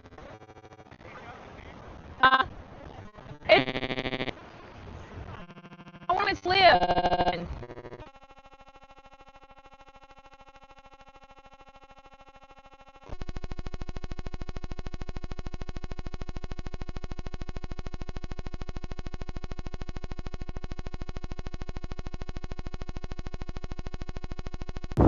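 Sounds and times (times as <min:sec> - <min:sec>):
electronic buzzing tone: 0:02.2 - 0:02.5, 0:03.5 - 0:04.4, 0:05.2 - 0:25.0.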